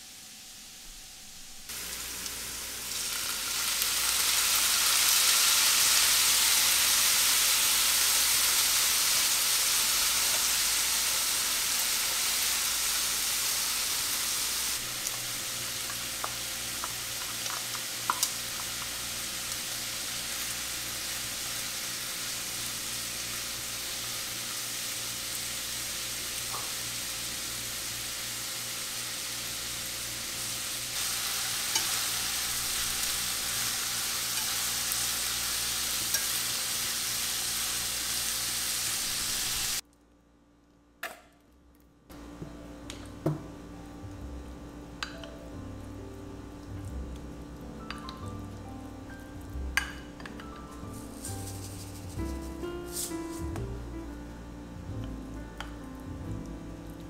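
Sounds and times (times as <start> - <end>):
vegetables sizzling in a frying pan: 0.0 - 39.8, 42.2 - 57.0.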